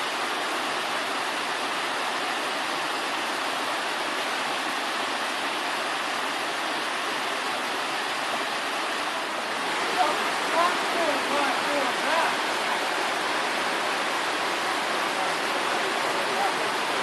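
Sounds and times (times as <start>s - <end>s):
river water over rapids: 0.0s - 17.0s.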